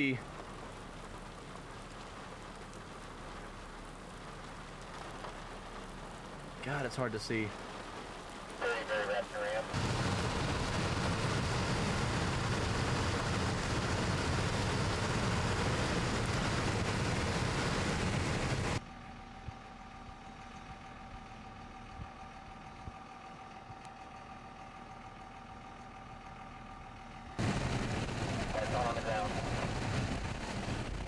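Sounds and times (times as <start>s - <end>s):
vehicle engines idling: 0.0s - 31.0s.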